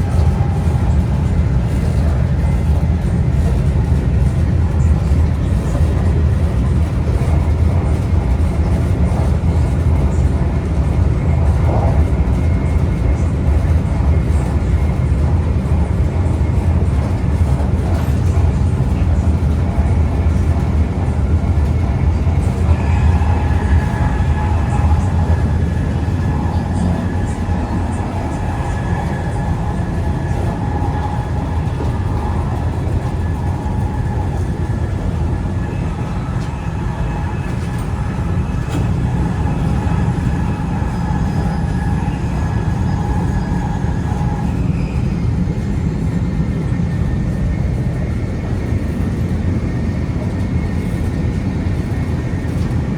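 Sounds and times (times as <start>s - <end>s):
train rumble: 0.0s - 52.9s
train whine: 0.0s - 52.9s.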